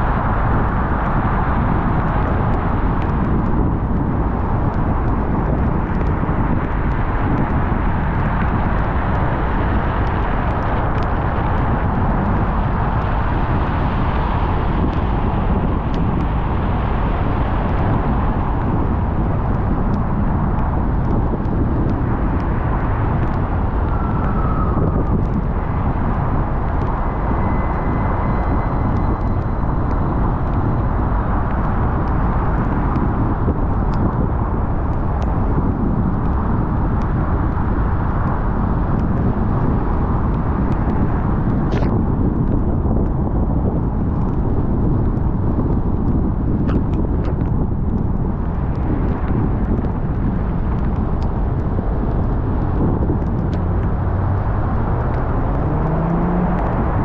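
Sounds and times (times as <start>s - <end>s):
car driving on wet pavement: 0.0s - 57.0s.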